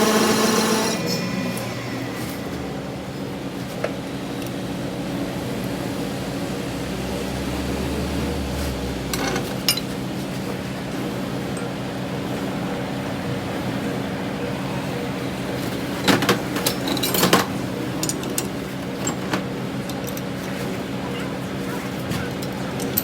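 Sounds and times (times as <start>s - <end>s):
workshop machine humming and whining: 0.0s - 23.0s.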